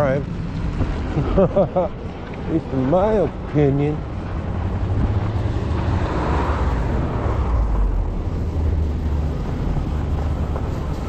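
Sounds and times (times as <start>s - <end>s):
traffic noise: 0.0s - 11.0s
tyre and road noise: 0.0s - 11.0s
wind rumble on microphone: 0.0s - 11.0s.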